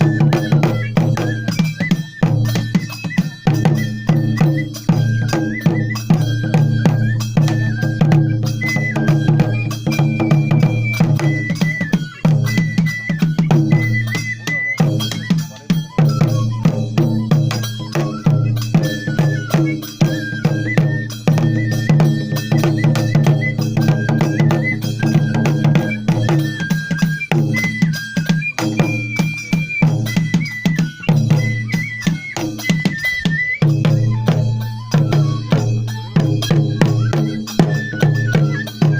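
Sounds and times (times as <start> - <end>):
clanging metal percussion: 0.0 - 38.9
high flute melody: 0.0 - 38.9.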